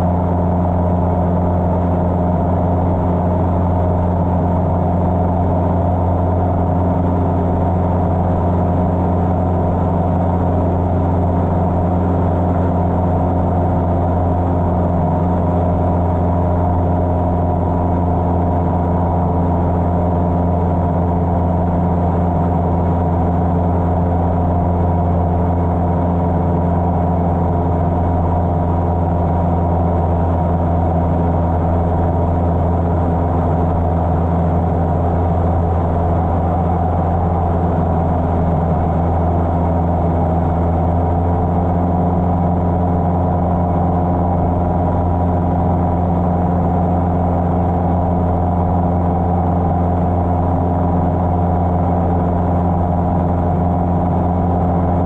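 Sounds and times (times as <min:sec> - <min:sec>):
light aircraft engine in flight: 0:00.0 - 0:55.0.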